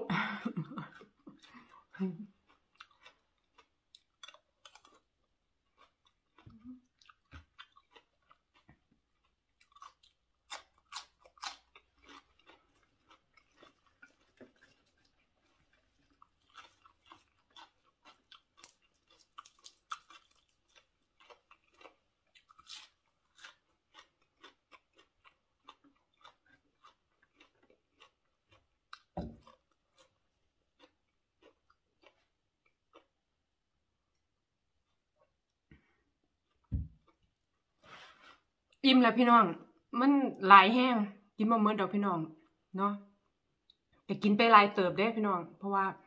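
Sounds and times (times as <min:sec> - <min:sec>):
person chewing food: 0:00.6 - 0:38.8.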